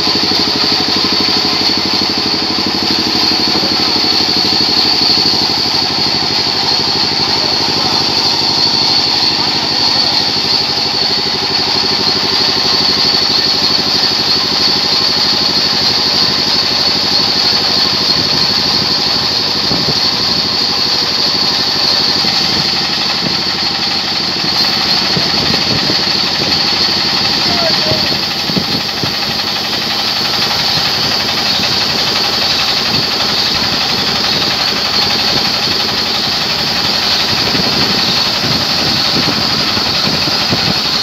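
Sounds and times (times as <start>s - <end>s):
saw blade hissing through log: 0.0s - 41.0s
sawmill engine running: 0.0s - 41.0s.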